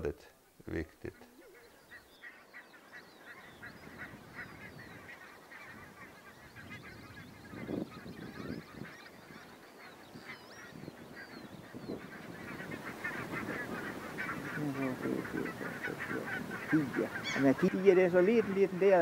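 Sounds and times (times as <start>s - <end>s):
flock of geese calling: 1.2s - 19.0s.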